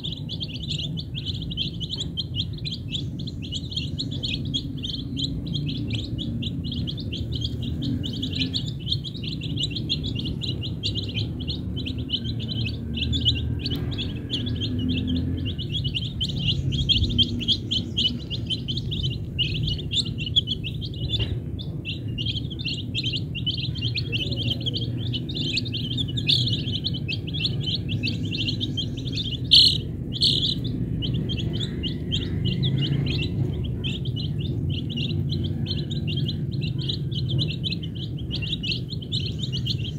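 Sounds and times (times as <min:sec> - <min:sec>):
chicks peeping: 0:00.0 - 0:39.9
steady low rumble: 0:00.0 - 0:39.9.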